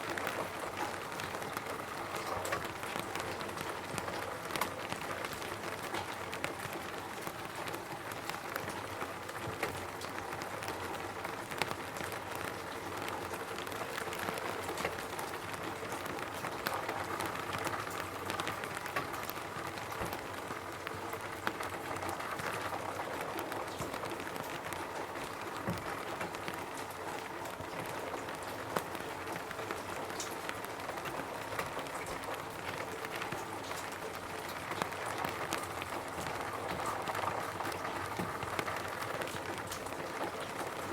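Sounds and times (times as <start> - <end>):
rain pattering on a roof: 0.0 - 40.9.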